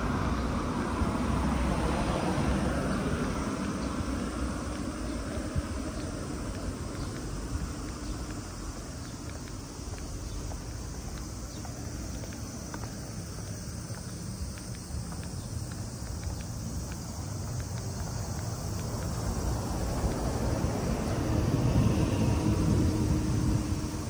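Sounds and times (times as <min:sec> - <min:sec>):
high insect drone: 0:00.0 - 0:24.0
footsteps clicking: 0:02.8 - 0:24.0.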